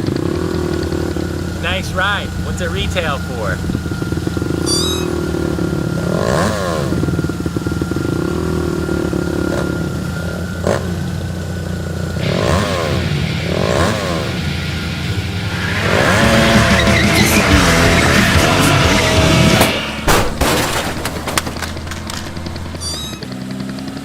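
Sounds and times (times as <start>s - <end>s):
vehicle engine revving: 0.0s - 24.0s.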